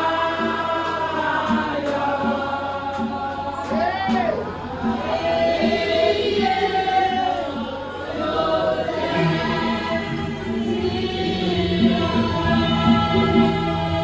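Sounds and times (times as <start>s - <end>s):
choir and congregation singing hymn: 0.0s - 14.0s
instrumental accompaniment: 0.0s - 14.0s.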